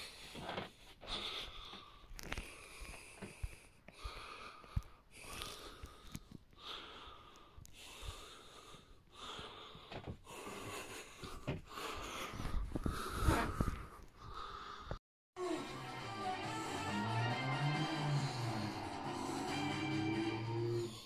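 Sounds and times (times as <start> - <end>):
person breathing heavily: 0.0 - 21.0.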